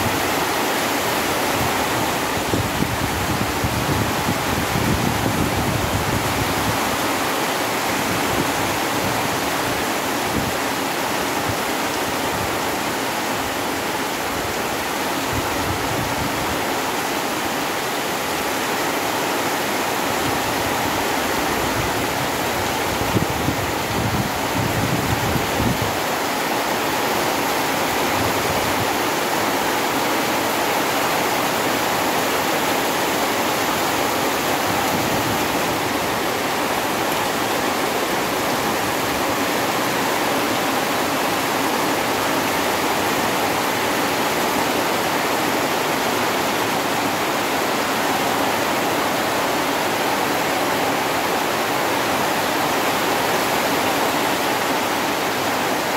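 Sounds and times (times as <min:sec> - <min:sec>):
heavy rain on trees: 0:00.0 - 0:55.9.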